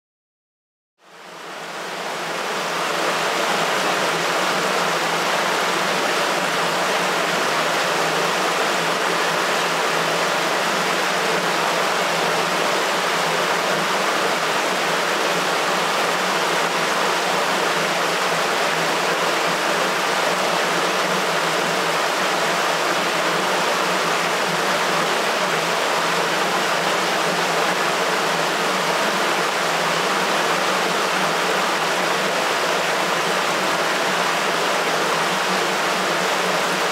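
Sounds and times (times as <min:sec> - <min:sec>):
water rushing through sewer: 0:01.2 - 0:36.9.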